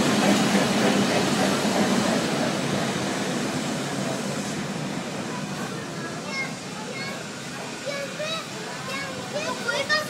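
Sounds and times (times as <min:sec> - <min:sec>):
tram rolling on rails: 0:00.0 - 0:10.0.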